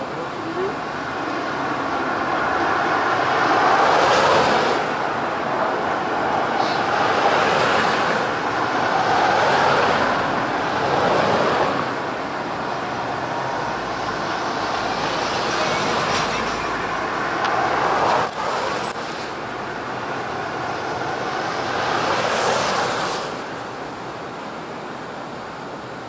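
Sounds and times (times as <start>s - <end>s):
passing cars: 0.0s - 26.0s.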